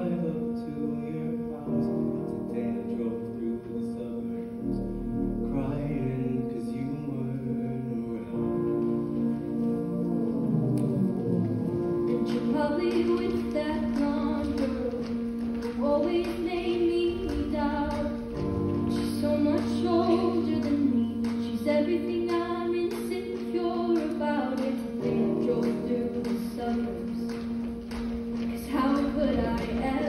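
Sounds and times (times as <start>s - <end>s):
held accompaniment chords: 0.0s - 30.0s.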